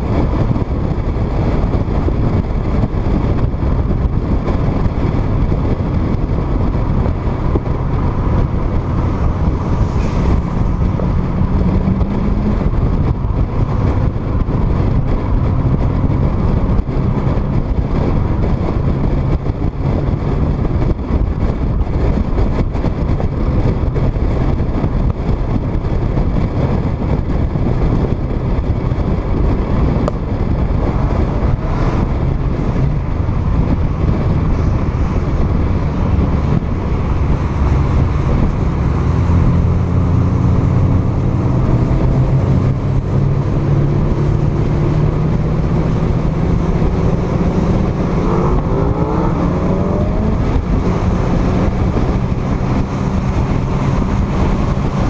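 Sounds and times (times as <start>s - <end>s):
car engine droning: 0.0s - 55.0s
wind and road noise: 0.0s - 55.0s.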